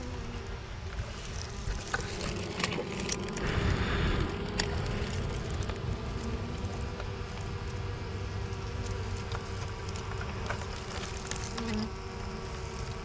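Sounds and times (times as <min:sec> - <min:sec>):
low rumble: 0:00.0 - 0:11.1
bees buzzing: 0:00.0 - 0:13.0.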